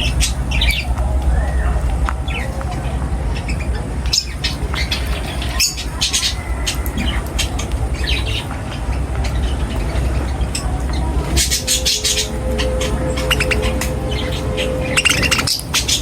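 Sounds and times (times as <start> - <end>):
birds chirping and squawking: 0.0 - 16.0
steady low rumble: 0.0 - 16.0.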